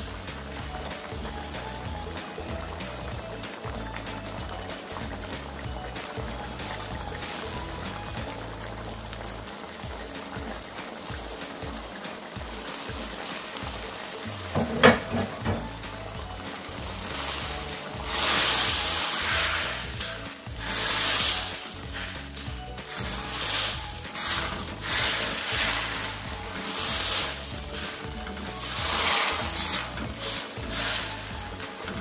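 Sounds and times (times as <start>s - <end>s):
gravy sizzling in a wok: 0.0s - 32.0s
wooden spatula scraping wok: 0.0s - 32.0s.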